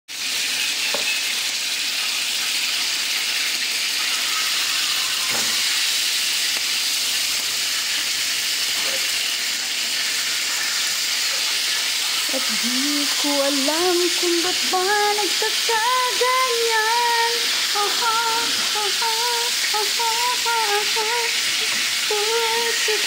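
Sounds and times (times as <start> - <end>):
chicken sizzling in hot oil: 0.1 - 23.0.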